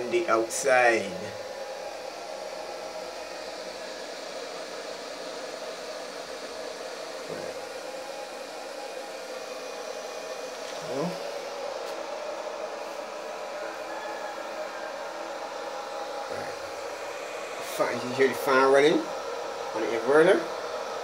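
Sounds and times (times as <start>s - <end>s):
cooling fan humming: 0.0s - 21.0s.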